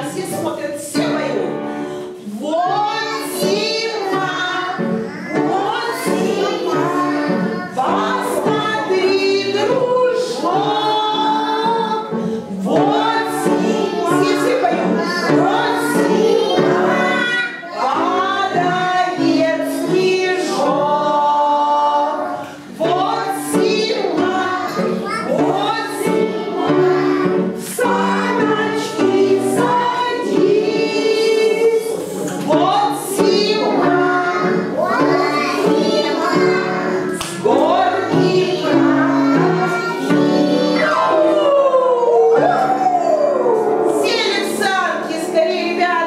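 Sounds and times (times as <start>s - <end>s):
group of voices singing: 0.0s - 46.0s
instrumental backing: 0.0s - 46.0s.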